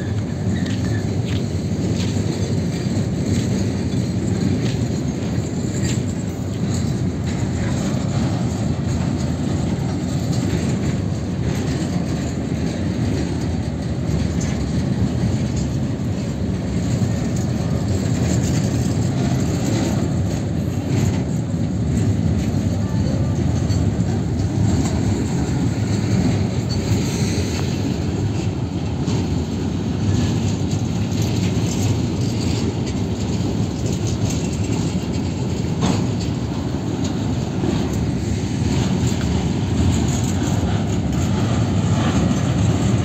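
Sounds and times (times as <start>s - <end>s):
rail clicks: 0.0s - 43.0s
steel wheels rumbling on rails: 0.0s - 43.0s.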